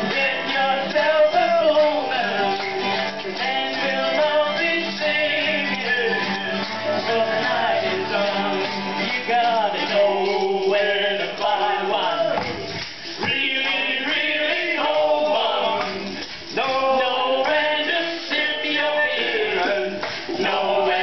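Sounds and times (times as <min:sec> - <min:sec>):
mandolin: 0:00.0 - 0:21.0
strummed acoustic guitars: 0:00.0 - 0:21.0.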